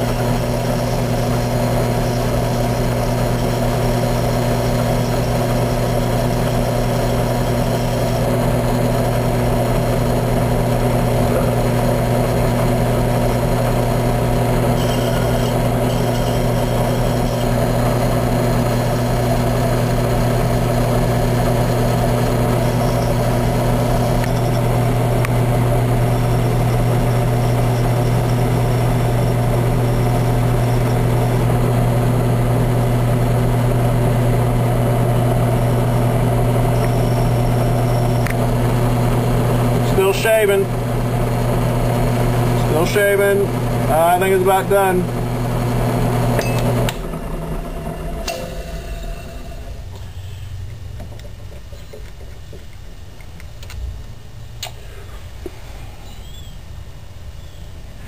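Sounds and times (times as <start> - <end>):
drill press motor humming: 0.0 - 51.4.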